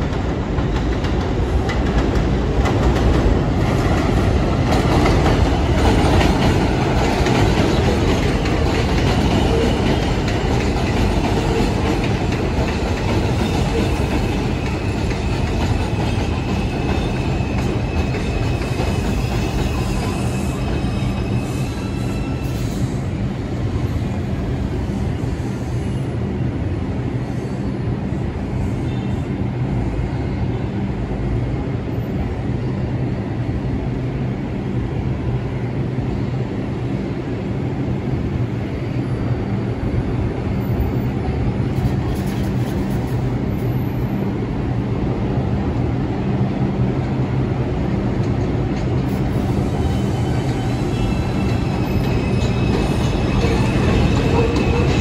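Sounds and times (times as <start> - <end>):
subway train rumbling: 0.0 - 55.0.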